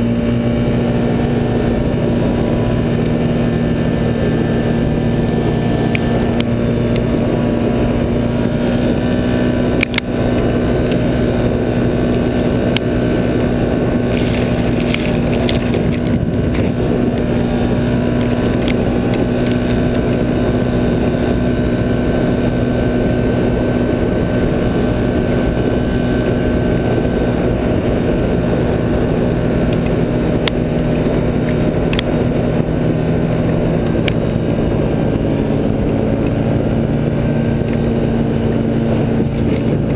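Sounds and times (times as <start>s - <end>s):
engine droning: 0.0s - 39.9s
snow tracks running: 0.0s - 39.9s.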